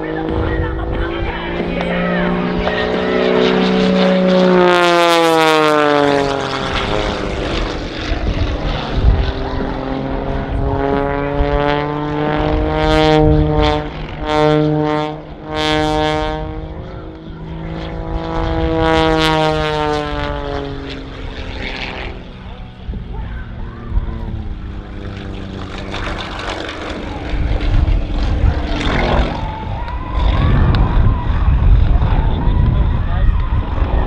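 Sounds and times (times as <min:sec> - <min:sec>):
propeller plane engine overhead: 0:00.0 - 0:34.0.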